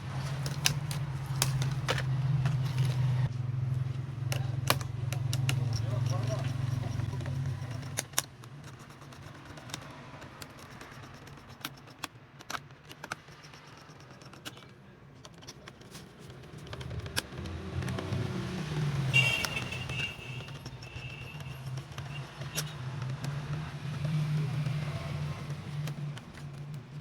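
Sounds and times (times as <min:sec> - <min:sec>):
small parts clicking and tapping: 0:00.2 - 0:03.1, 0:03.8 - 0:27.0.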